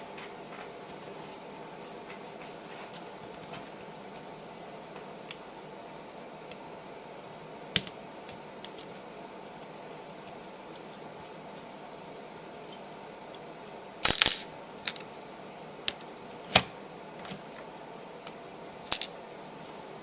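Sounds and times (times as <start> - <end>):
steady fan-like hum: 0.0 - 20.0.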